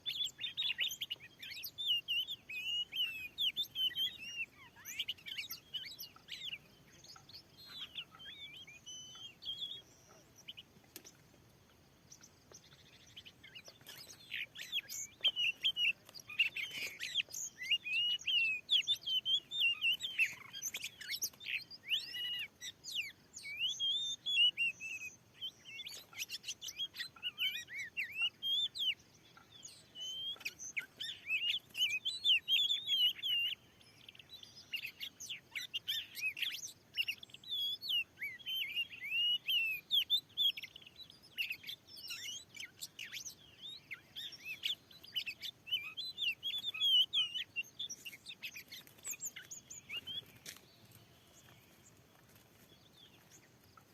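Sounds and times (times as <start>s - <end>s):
bird song of whistles and chirps: 0.0s - 53.9s.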